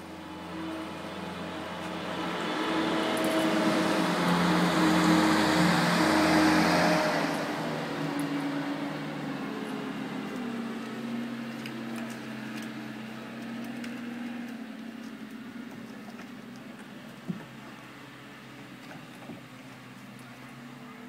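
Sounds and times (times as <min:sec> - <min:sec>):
vehicle engine drone: 0:00.0 - 0:21.0.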